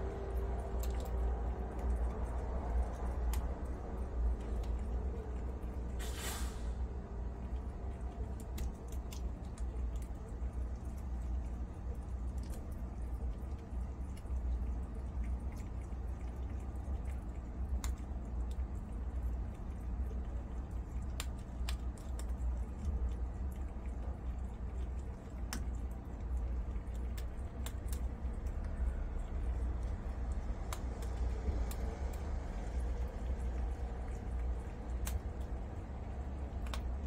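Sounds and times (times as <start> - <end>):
prairie dogs chewing: 0.0 - 37.0
steady low hum: 0.0 - 37.0.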